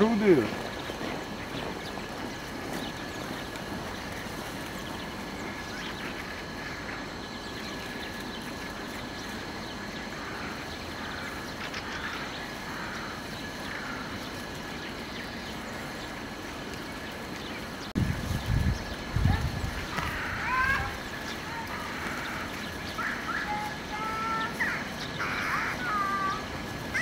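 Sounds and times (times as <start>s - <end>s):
faint bird calls: 0.0s - 18.0s, 18.8s - 27.0s
steady background noise: 0.0s - 27.0s.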